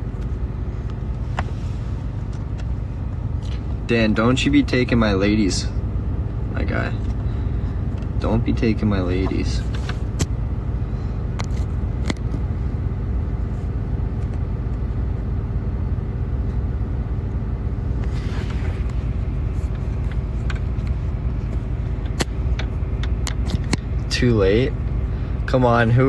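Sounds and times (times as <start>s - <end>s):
truck idling: 5.0s - 26.0s.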